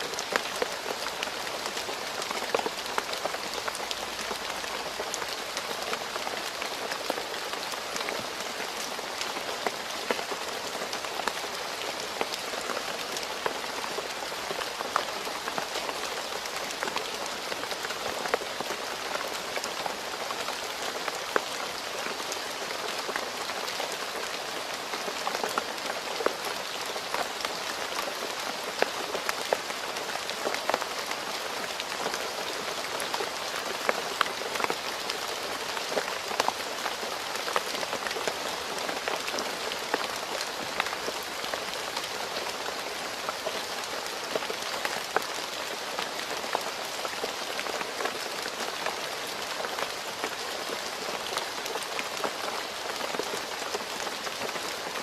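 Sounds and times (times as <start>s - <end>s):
rain falling on a road: 0.0s - 55.0s.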